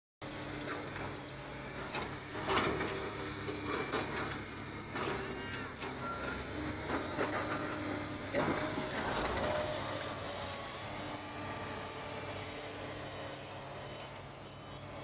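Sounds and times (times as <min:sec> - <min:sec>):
excavator diesel engine running: 0:00.2 - 0:15.0.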